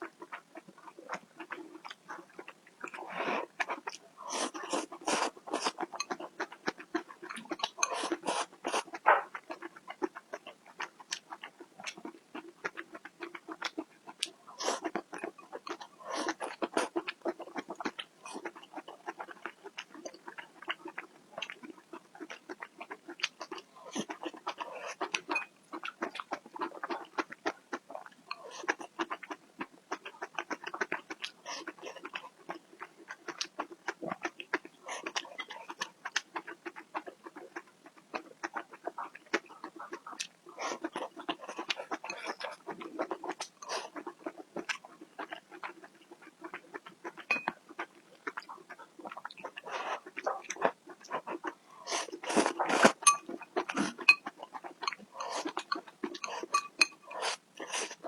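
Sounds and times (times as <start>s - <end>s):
wet chewing and lip-smacking: 0.0s - 58.0s.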